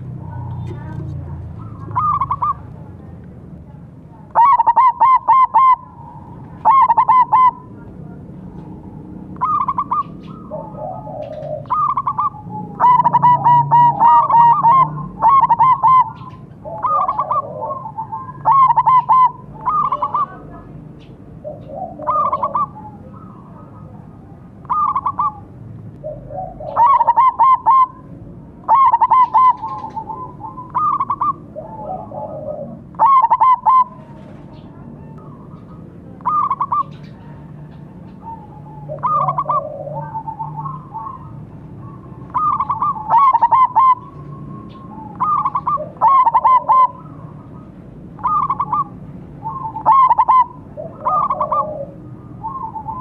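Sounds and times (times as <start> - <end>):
doves cooing: 0.0 - 3.0, 3.9 - 53.0.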